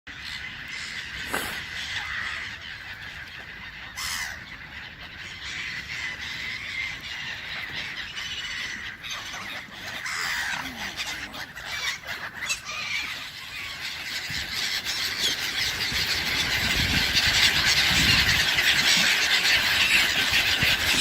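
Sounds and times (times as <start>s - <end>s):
waterfowl flock calling: 0.1s - 21.0s.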